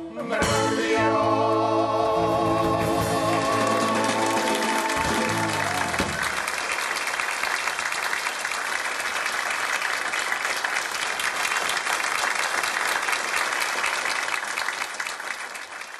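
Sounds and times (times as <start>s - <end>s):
audience applauding: 2.9s - 15.9s.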